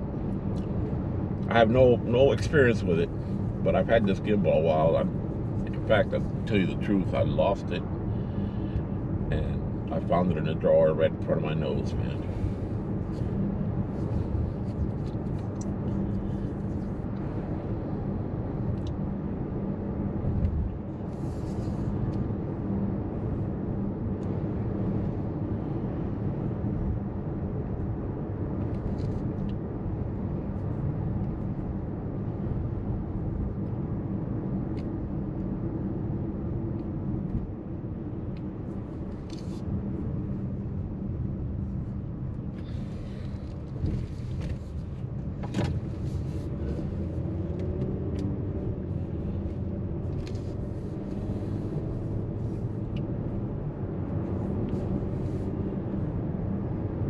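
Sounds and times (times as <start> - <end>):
car road and engine rumble: 0.0 - 57.0
low hum: 0.0 - 57.0.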